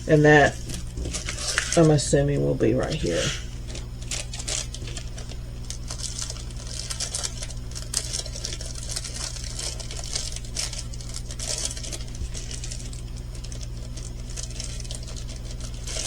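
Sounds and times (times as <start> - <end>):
low electrical hum: 0.0 - 16.0
plastic crinkling: 0.0 - 16.0.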